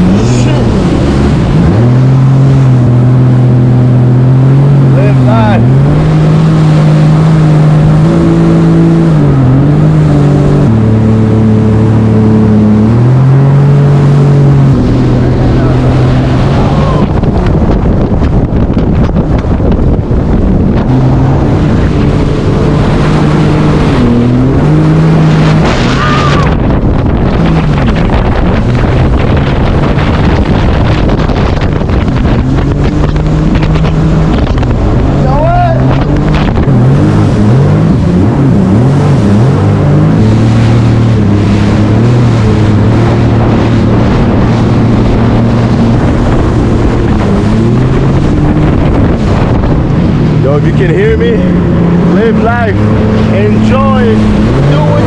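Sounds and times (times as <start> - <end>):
jet ski engine revving: 0.0 - 55.0
water rushing: 0.0 - 55.0
wind buffeting: 0.0 - 55.0.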